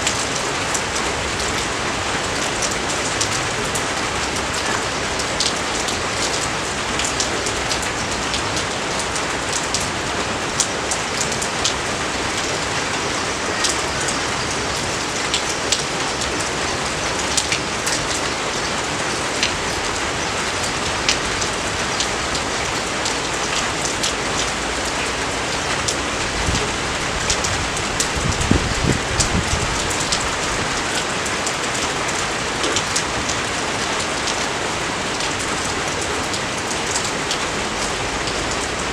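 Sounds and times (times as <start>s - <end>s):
steady rain with drop ticks: 0.0s - 38.9s.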